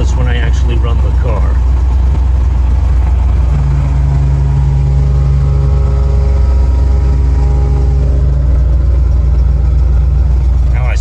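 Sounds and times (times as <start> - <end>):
air conditioning hum: 0.0 - 11.0
car engine low rumble: 0.0 - 11.0.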